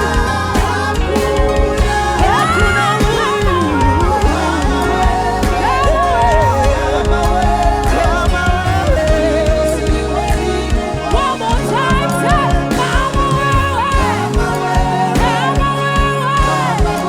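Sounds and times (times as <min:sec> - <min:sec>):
gospel worship band music: 0:00.0 - 0:17.0.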